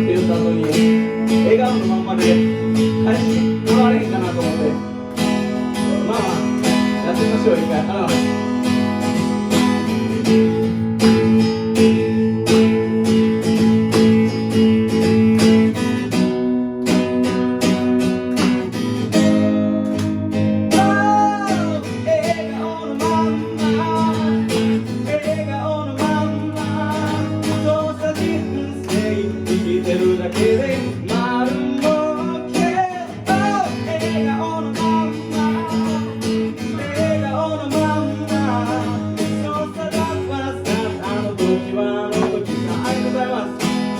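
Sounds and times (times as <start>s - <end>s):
acoustic guitar strumming chords: 0.0s - 43.9s.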